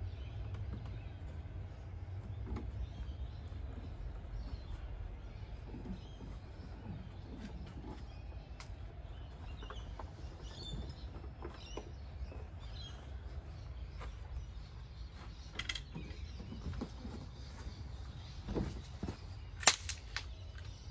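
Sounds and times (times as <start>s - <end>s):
plastic kayak creaking and knocking: 0.2s - 12.7s, 15.3s - 19.6s.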